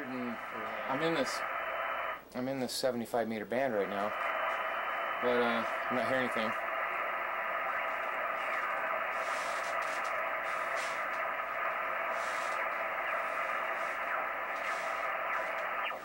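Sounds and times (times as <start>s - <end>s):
radio receiver static hiss: 0.0s - 16.0s
radio whistles sliding in pitch: 0.2s - 2.2s, 3.8s - 16.0s.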